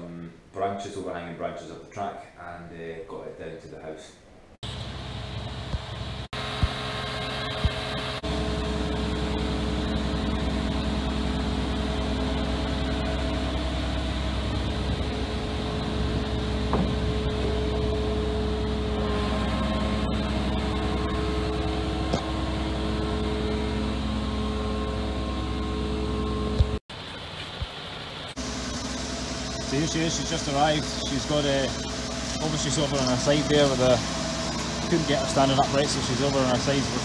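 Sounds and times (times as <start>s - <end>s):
diesel engine humming: 4.6s - 27.0s, 27.8s - 37.0s.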